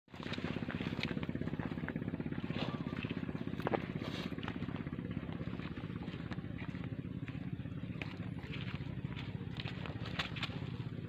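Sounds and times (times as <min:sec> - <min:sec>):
engine idling: 0:00.1 - 0:11.0.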